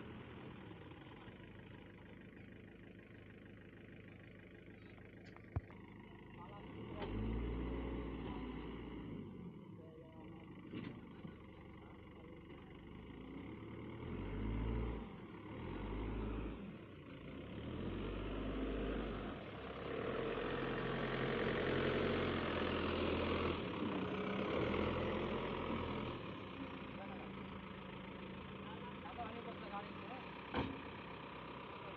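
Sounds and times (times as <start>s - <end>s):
heavy diesel engines revving: 6.2s - 31.9s.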